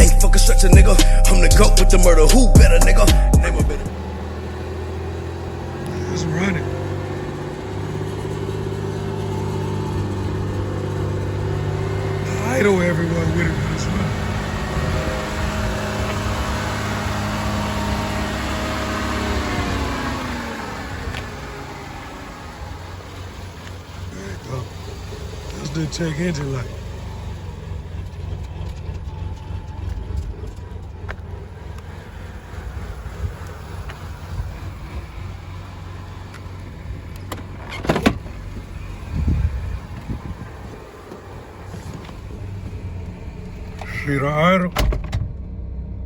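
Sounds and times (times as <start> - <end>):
car engine idling unsteadily: 0.0 - 45.6.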